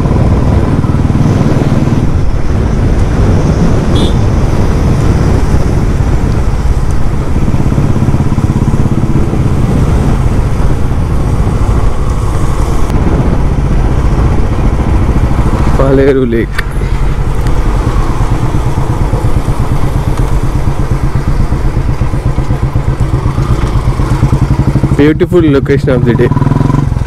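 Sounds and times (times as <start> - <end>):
motorcycle engine running: 0.0 - 27.0
wind and road rush: 0.0 - 27.0.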